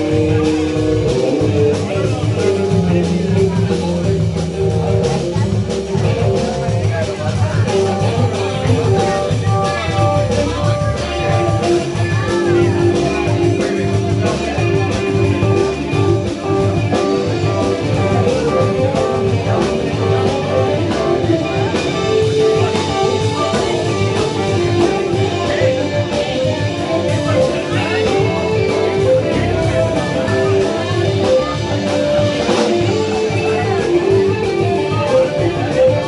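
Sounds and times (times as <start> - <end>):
melodic electric guitar line: 0.0 - 36.0
rock band playing: 0.0 - 36.0.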